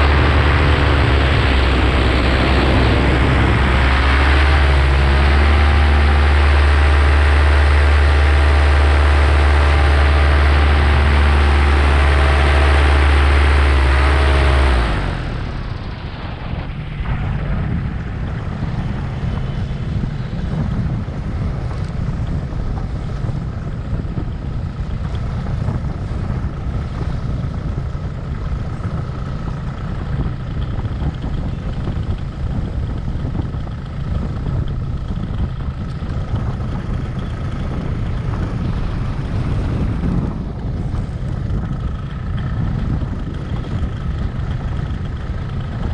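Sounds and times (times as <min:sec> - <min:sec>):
paramotor engine and propeller: 0:00.0 - 0:45.9.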